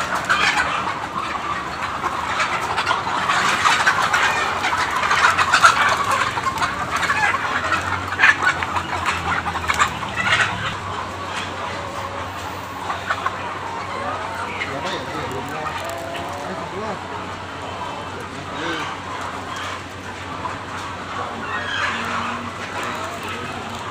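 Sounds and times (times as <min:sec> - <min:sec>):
hens clucking: 0:00.0 - 0:23.9.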